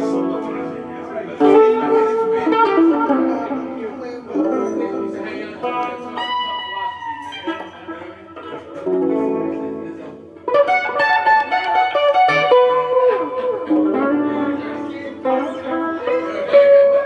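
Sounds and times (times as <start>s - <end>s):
guitar plucking chords: 0.0s - 17.0s.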